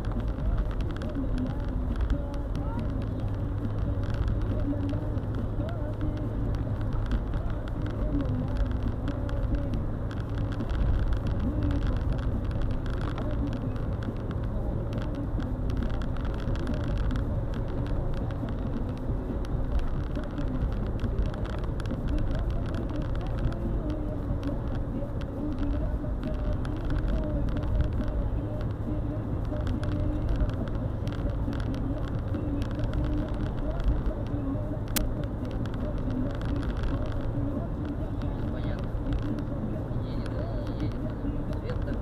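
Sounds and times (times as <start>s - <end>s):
car engine and tyres humming: 0.0s - 42.0s.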